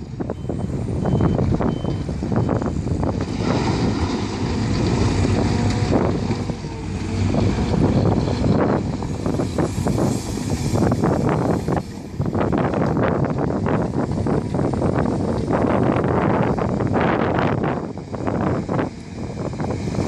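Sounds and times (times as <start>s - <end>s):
heavy diesel engines running: 0.0s - 20.0s.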